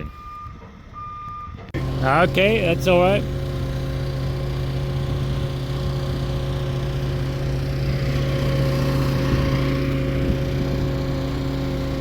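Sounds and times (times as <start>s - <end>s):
engine droning hum: 0.0s - 12.0s.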